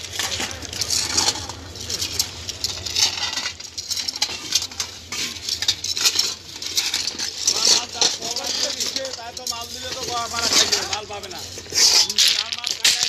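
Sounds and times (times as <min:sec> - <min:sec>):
stones crunching and clinking: 0:00.0 - 0:13.0.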